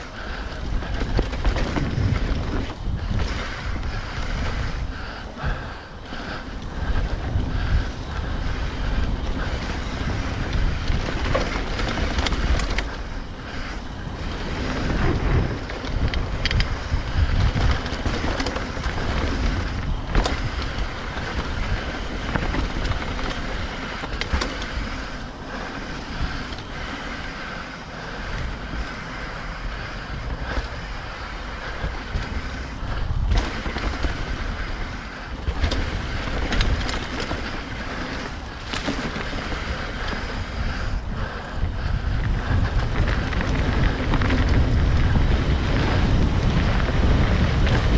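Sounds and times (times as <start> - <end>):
bike knocks and rattles: 0.0 - 47.9
bike tyres rolling on dirt: 0.0 - 47.9
wind buffeting microphone: 0.0 - 47.9.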